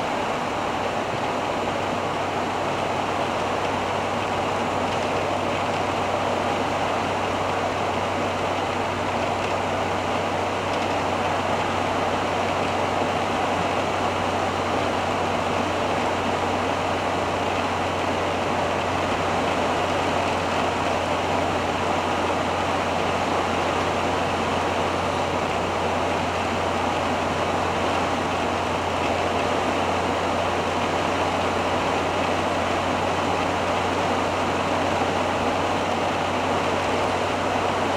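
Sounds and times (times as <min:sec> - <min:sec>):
road and wind noise: 0:00.0 - 0:37.9.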